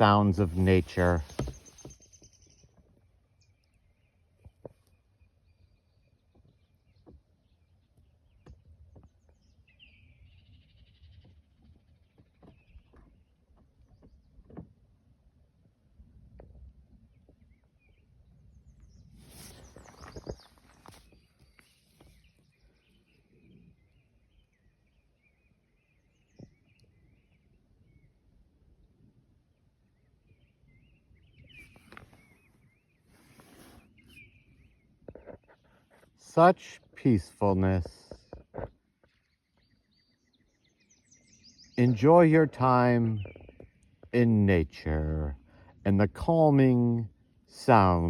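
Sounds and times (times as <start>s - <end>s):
faint birds chirping and calling: 0.0s - 14.6s, 16.9s - 44.1s.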